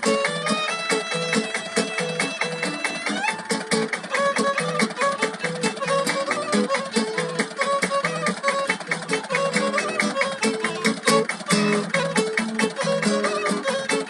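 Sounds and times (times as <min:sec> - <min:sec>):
guitar: 0:00.0 - 0:14.0
violin: 0:00.0 - 0:14.0.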